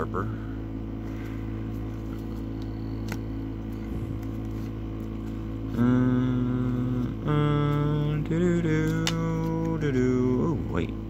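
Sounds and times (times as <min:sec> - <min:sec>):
steady low hum: 0:00.0 - 0:11.0
long held notes: 0:01.4 - 0:11.0.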